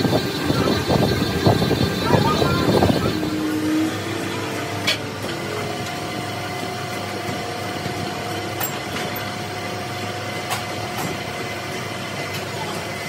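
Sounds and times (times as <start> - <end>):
constant whine: 0.0 - 12.9
grinding machine humming: 0.0 - 13.0.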